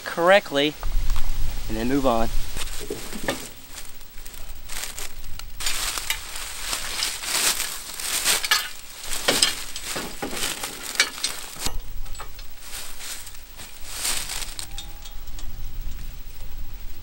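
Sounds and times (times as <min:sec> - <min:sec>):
footsteps crunching dry leaves: 0:00.8 - 0:15.0.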